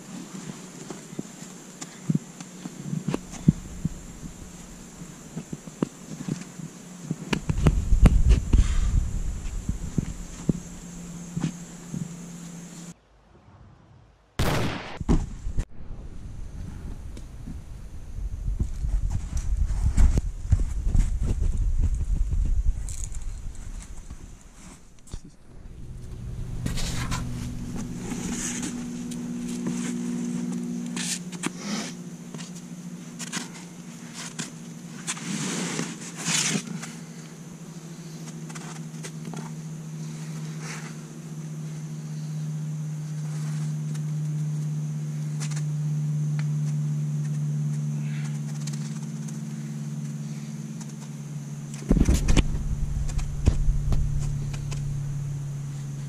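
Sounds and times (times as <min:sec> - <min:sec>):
low hum: 0:02.6 - 0:35.0, 0:36.7 - 0:56.0.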